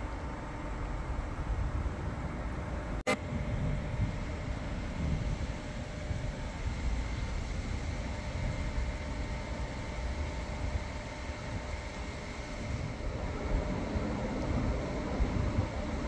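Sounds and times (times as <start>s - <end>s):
faint steady hum: 0.0s - 16.0s
wind rumbling on microphone: 0.0s - 16.0s.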